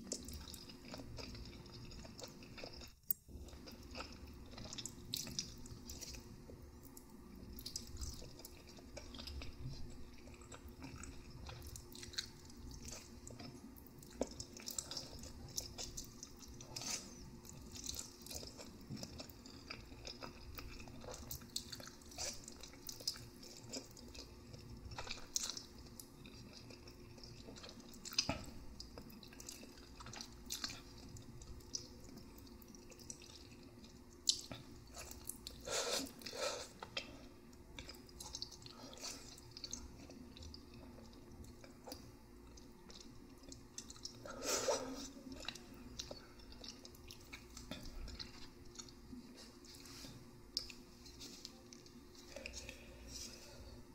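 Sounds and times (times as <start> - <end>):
chewing noodles: 0.0 - 53.8.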